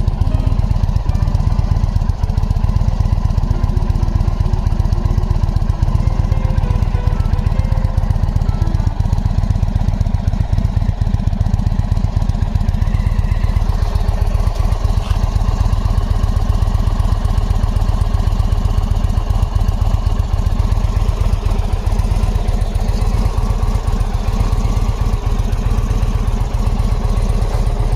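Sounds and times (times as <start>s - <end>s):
motorcycle engine idling: 0.0s - 27.9s.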